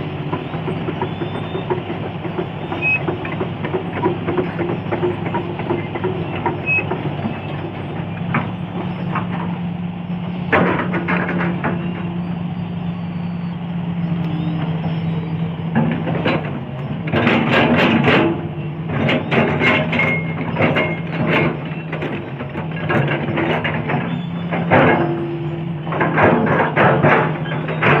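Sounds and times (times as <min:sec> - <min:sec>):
excavator diesel engine running: 0:00.0 - 0:28.0
sharp irregular knocks and clanks: 0:00.3 - 0:09.6, 0:10.5 - 0:12.1, 0:15.7 - 0:28.0.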